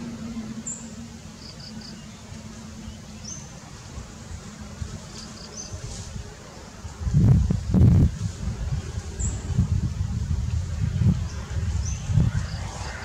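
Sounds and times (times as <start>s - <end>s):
steady low buzz: 0.0s - 13.0s.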